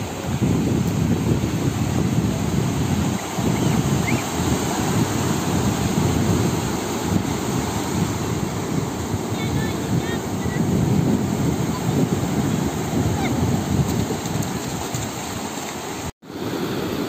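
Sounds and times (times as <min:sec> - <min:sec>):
wind buffeting microphone: 0:00.0 - 0:16.1
waves breaking on beach: 0:00.0 - 0:17.0.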